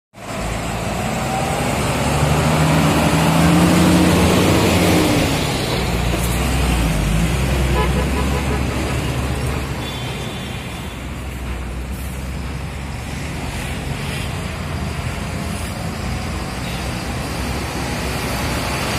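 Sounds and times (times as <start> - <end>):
diesel truck engines rumbling: 0.2 - 18.9.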